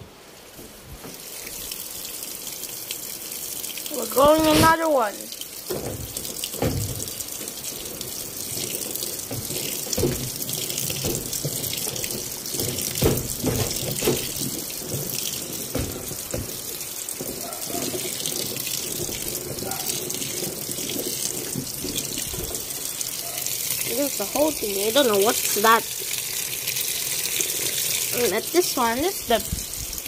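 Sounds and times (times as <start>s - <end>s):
water splashing onto laundry: 0.2s - 30.0s
water pouring into washing machine: 1.0s - 30.0s.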